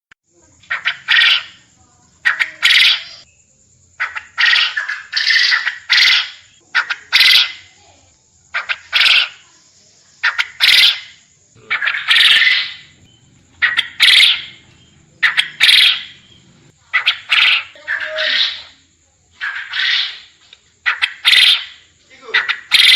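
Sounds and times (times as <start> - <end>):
quail calling: 0.6 - 3.3, 4.0 - 7.8, 8.5 - 9.5, 10.2 - 18.8, 19.4 - 22.9.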